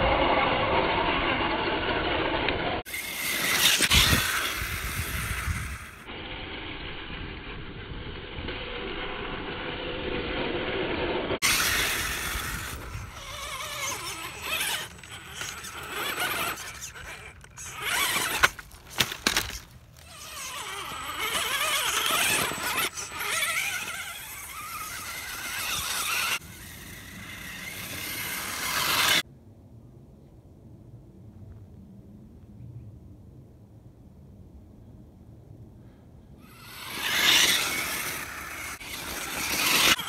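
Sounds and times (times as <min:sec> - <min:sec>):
toy car electric motor whining: 0:00.0 - 0:29.2, 0:36.4 - 0:40.0.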